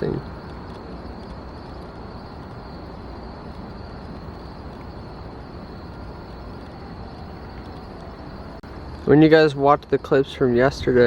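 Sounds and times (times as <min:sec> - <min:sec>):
constant high-pitched hum: 0:00.0 - 0:11.0.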